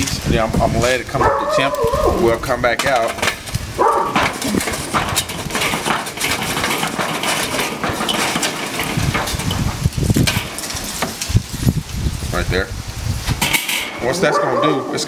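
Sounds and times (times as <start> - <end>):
charcoal clattering on metal: 0.0 - 12.5, 13.2 - 15.0.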